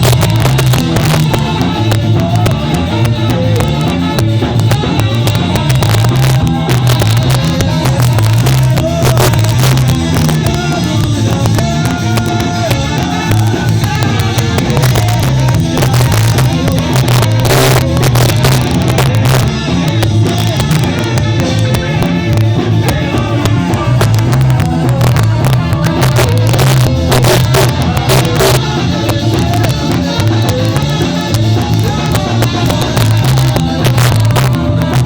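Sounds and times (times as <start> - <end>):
live ska band playing: 0.0 - 35.0
pulsing bass line: 0.0 - 35.0.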